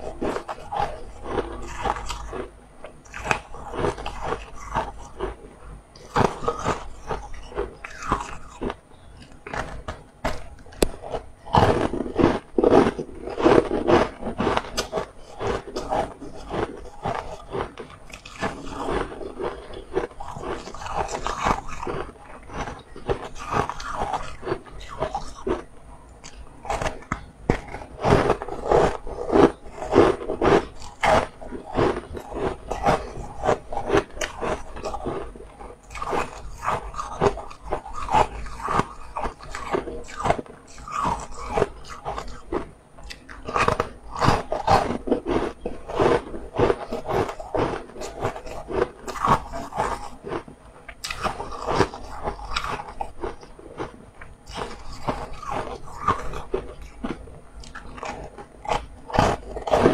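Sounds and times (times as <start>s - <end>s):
crunching ice cookie: 0.0s - 59.9s.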